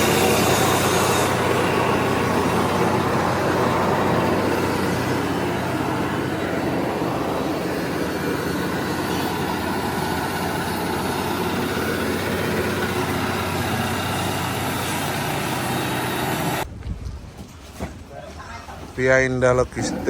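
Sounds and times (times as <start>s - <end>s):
small petrol engine running: 0.0s - 16.6s.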